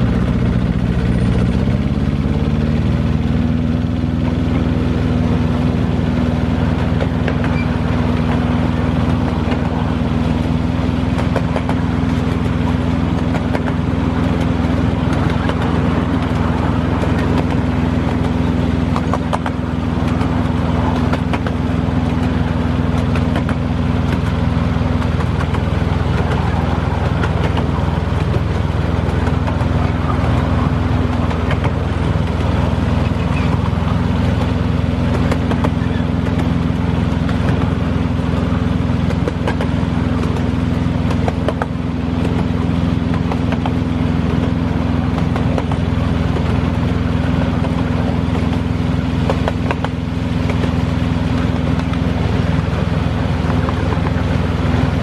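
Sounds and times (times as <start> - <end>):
locomotive engine running: 0.0 - 55.0
wheels clicking on track: 0.0 - 55.0.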